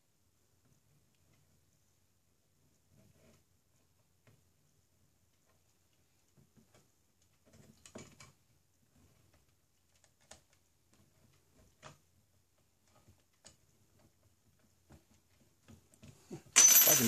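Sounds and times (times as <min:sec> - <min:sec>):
faint plastic clicks and knocks: 0:02.6 - 0:16.2.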